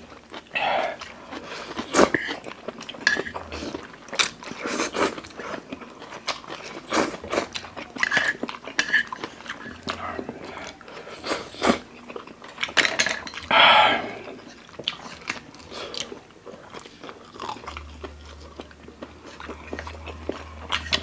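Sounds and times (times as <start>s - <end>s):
wet chewing and smacking: 0.0s - 13.5s, 14.2s - 21.0s.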